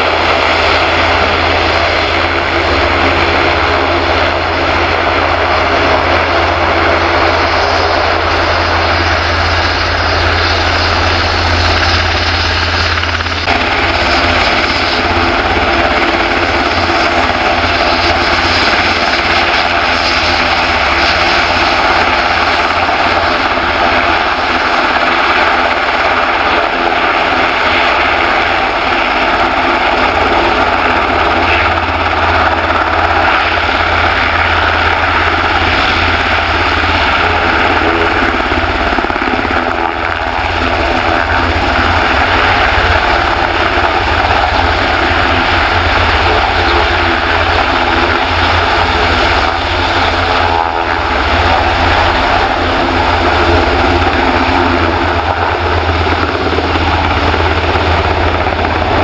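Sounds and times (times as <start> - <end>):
helicopter engines and rotors: 0.0 - 59.0.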